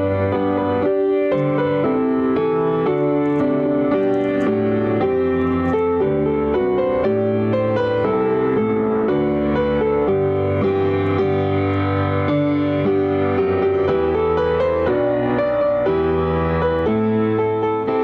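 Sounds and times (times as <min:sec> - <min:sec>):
gentle piano keyboard music: 0:00.0 - 0:18.0.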